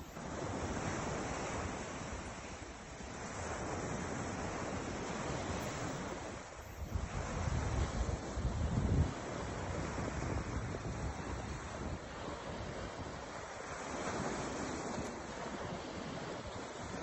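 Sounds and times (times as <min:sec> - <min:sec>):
surf washing onto shore: 0:00.0 - 0:17.0
wind on microphone: 0:00.0 - 0:17.0.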